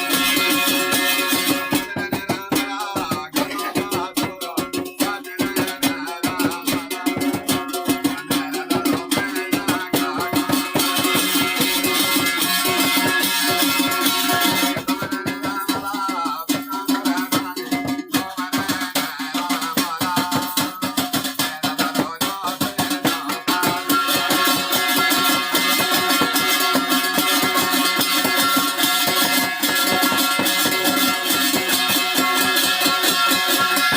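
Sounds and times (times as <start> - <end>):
fast percussion beat: 0.0 - 33.9.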